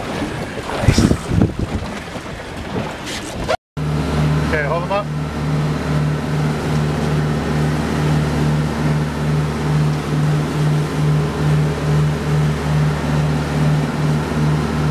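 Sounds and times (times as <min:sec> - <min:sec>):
motorboat engine droning: 0:00.0 - 0:14.9
rushing wake water: 0:00.0 - 0:14.9
wind: 0:00.0 - 0:14.9.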